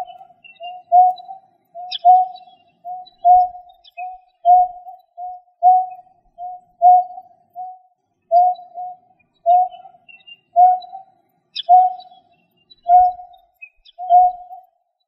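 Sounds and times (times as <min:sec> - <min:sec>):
bird hooting call: 0:00.0 - 0:12.2, 0:12.8 - 0:14.6.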